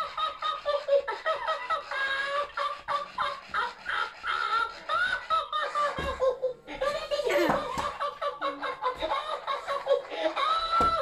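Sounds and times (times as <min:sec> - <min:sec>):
toy laughing high-pitched: 0:00.0 - 0:11.0.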